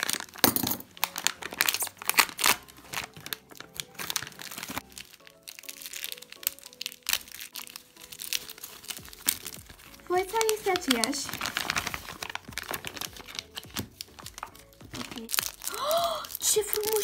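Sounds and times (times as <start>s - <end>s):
plastic packet crinkling: 0.0s - 17.0s
soft background music: 0.0s - 17.0s.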